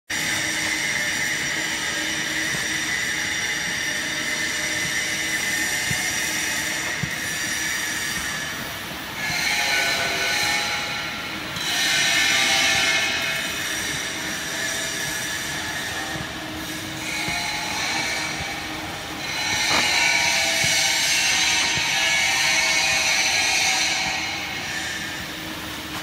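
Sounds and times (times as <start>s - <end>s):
machinery whine: 0.1s - 26.0s
high squealing tones: 4.3s - 25.2s.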